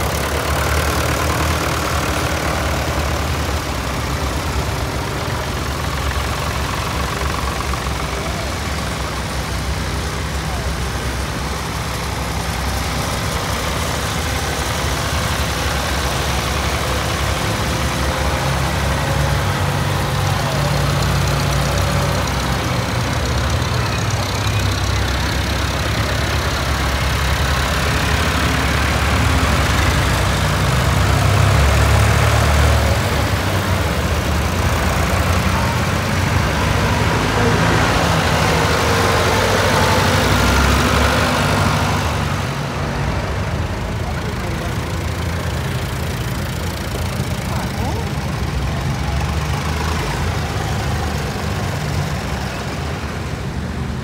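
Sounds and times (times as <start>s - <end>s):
diesel tractors driving past: 0.0s - 54.0s.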